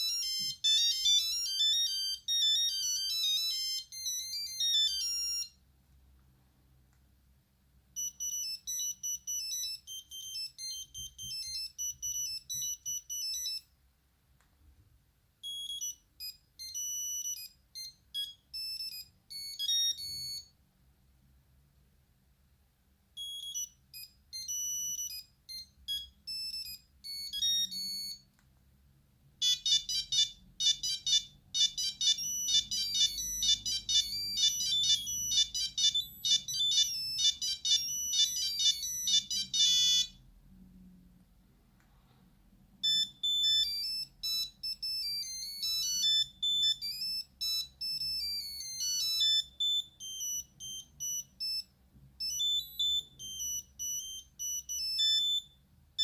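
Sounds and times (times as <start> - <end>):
monophonic phone ringtone beeping: 0.0 - 5.6, 8.0 - 13.7, 15.4 - 20.6, 23.2 - 28.3, 29.4 - 40.2, 42.8 - 55.7.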